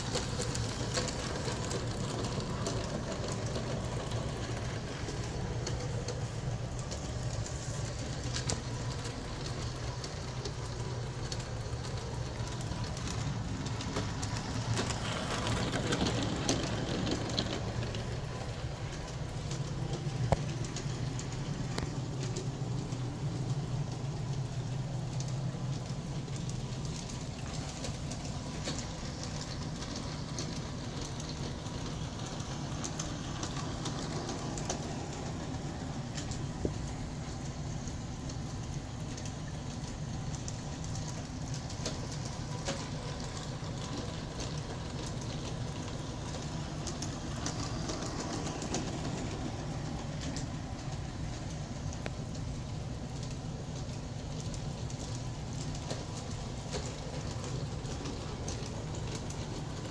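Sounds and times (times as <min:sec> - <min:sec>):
wheels clicking over rail joints: 0:00.0 - 0:59.9.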